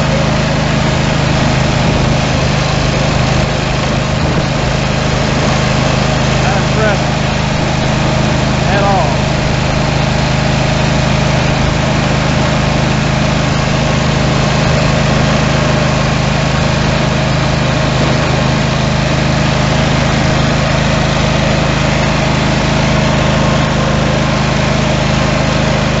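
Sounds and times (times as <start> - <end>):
garden tractor engine running: 0.0 - 26.0.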